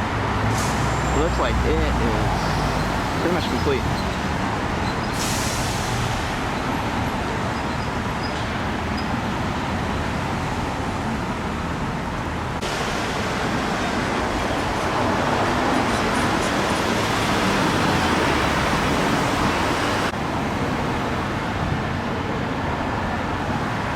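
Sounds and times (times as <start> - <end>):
road traffic rushing: 0.0 - 23.9.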